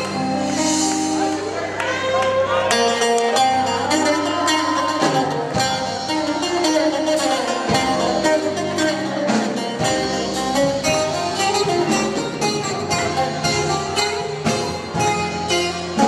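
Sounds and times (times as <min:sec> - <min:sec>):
bouzouki fast picked melody: 0:00.0 - 0:16.0.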